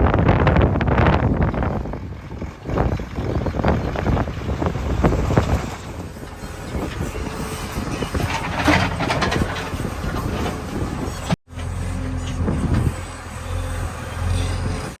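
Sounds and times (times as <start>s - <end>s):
diesel engine running: 0.0s - 15.0s
rattling noise: 0.6s - 13.2s.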